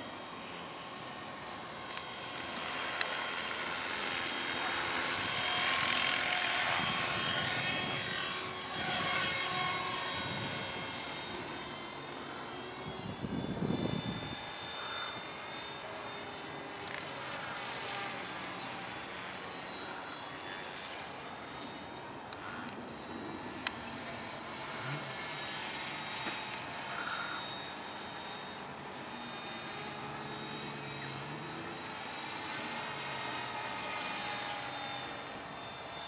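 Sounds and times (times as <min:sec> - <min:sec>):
rc helicopter motor whine: 0:00.0 - 0:36.0
rotor blades whirring: 0:00.0 - 0:36.0.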